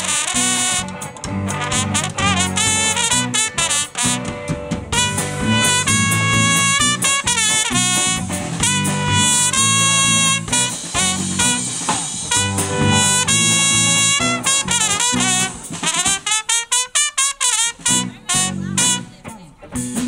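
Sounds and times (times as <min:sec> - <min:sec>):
electric guitar: 0:00.0 - 0:16.3, 0:17.8 - 0:20.0
trumpet playing lead line: 0:00.0 - 0:19.3
drums: 0:00.0 - 0:20.0.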